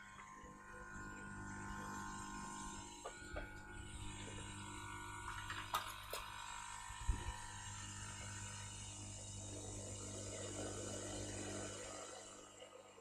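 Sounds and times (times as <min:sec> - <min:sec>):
equipment hum and whine: 0:00.0 - 0:13.0.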